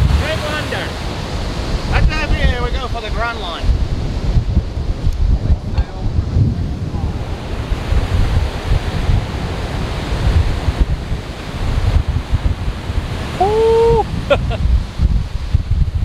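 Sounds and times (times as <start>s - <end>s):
surf breaking: 0.0s - 16.0s
wind buffeting microphone: 0.0s - 16.0s.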